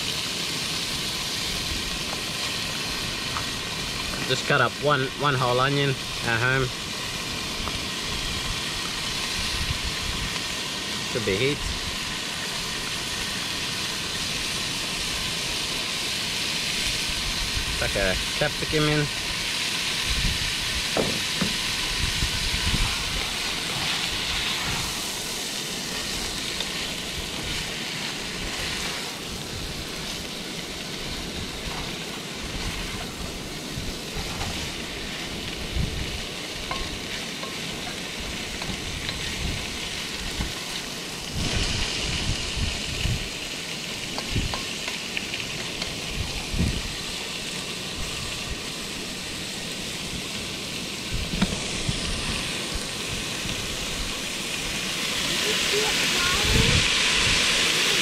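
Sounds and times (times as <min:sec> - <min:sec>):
food sizzling in a pot: 0:00.0 - 0:58.0.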